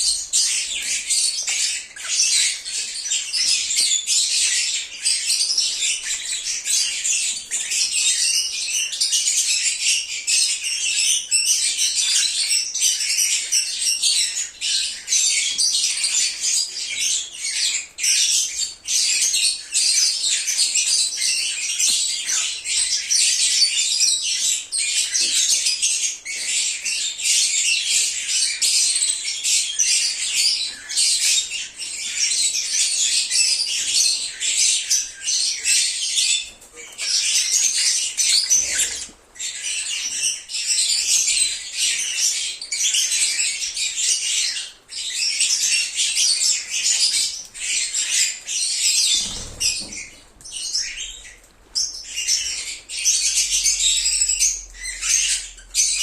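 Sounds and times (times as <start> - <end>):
flock of birds chirping: 0.0 - 56.0.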